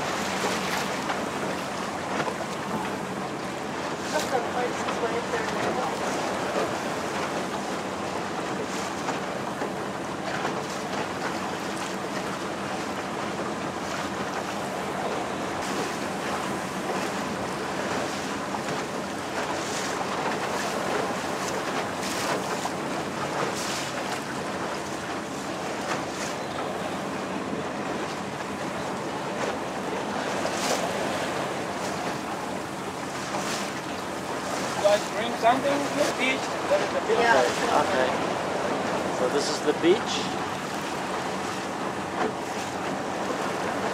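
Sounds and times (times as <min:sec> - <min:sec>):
motor boat engine running: 0:00.0 - 0:43.9
water sloshing past hull: 0:00.0 - 0:43.9.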